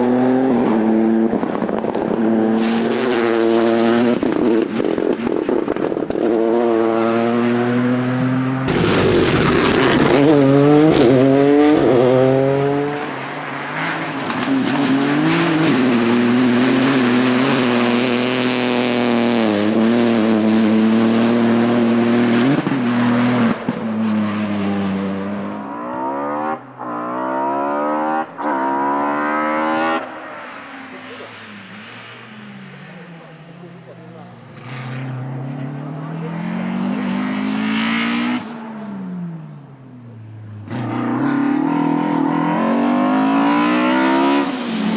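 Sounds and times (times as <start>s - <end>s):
rally cars passing at full throttle: 0.0s - 44.9s.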